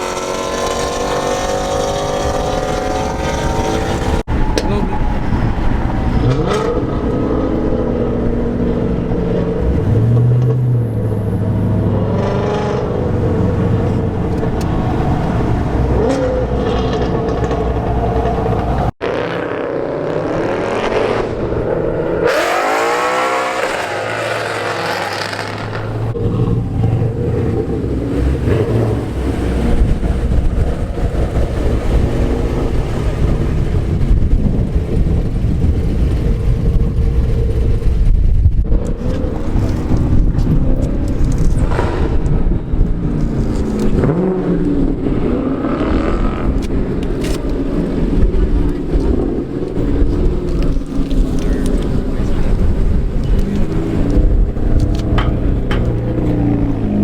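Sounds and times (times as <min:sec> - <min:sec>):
car engines accelerating hard: 0:00.0 - 0:57.0.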